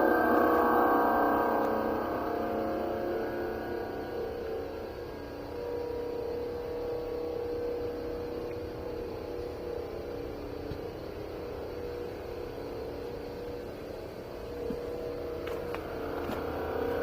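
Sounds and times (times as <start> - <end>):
steady droning hum: 0.0 - 17.0.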